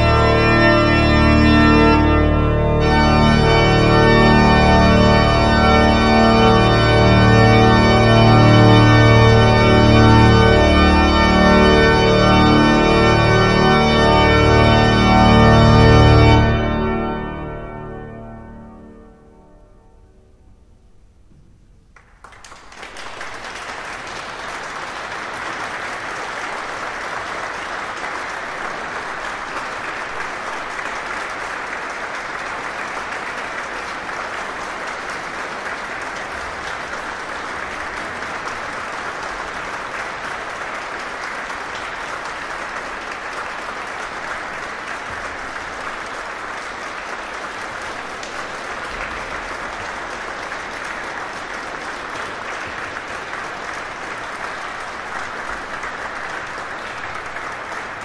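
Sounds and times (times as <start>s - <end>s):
audience applauding: 0.0s - 18.2s, 22.0s - 58.0s.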